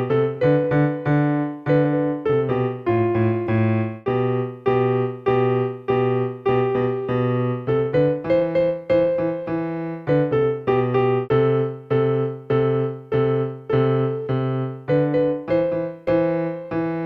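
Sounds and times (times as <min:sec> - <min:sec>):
electronic keyboard piano melody: 0:00.0 - 0:17.0.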